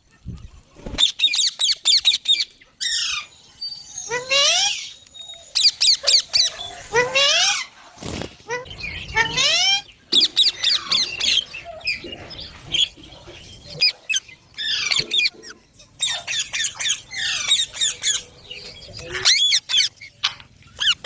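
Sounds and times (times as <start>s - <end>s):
parrots squawking: 1.0s - 3.4s, 4.0s - 7.8s, 8.5s - 21.0s.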